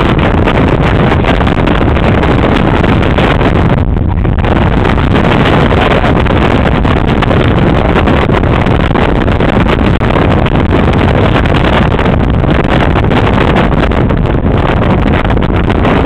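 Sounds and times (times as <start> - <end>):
wind and road noise: 0.0 - 16.0
wind buffeting microphone: 0.0 - 16.0.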